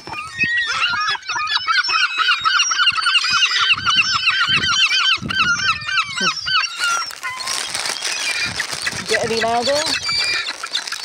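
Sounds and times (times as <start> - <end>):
gulls calling harshly: 0.0 - 11.0.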